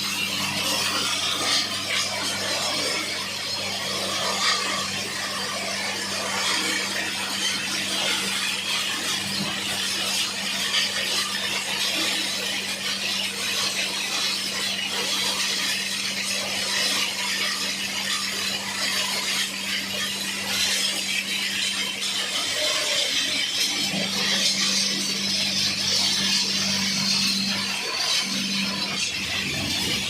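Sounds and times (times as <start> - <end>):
electric motor hum: 0.0 - 30.0.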